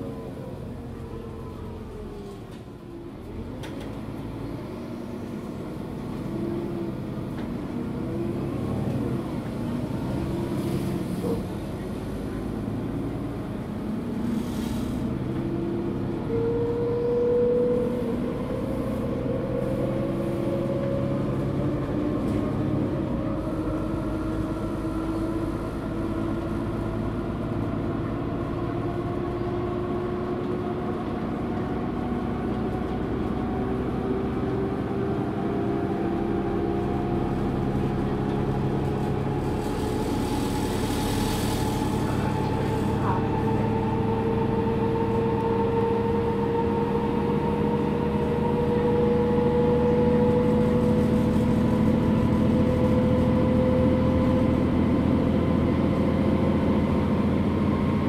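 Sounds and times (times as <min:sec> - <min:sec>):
bus engine and gearbox whine: 0:00.0 - 0:58.0.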